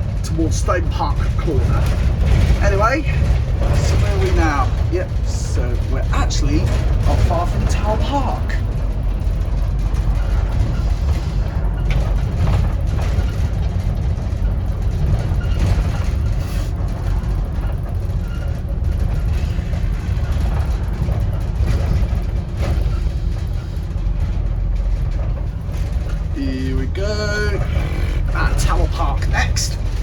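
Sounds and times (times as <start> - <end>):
bus engine rumble: 0.0 - 30.0
road noise: 0.0 - 30.0.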